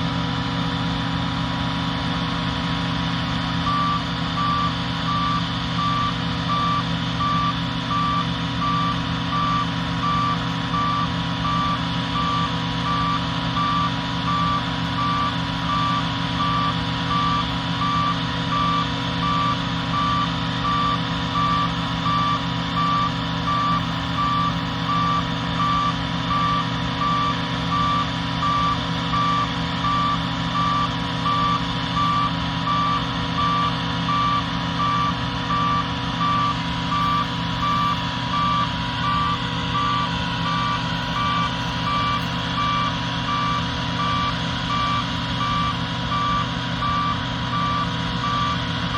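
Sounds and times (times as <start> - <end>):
combine harvester engine running: 0.0 - 48.9
electronic short beeps: 3.7 - 48.6.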